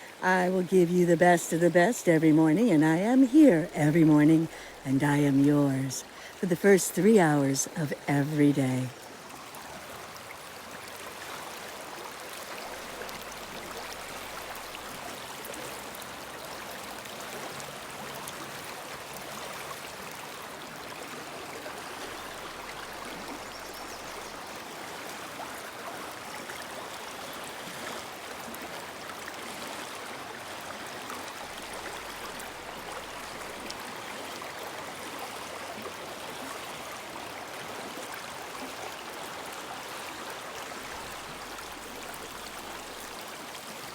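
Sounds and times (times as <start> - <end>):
river flowing: 0.0 - 43.9.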